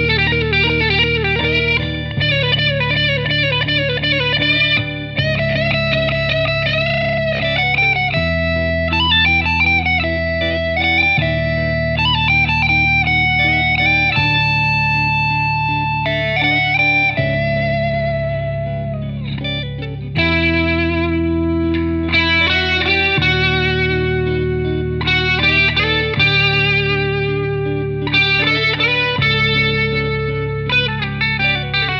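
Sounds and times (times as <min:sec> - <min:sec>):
guitar lead melody: 0:00.0 - 0:31.9
sustained backing chords: 0:00.0 - 0:31.9.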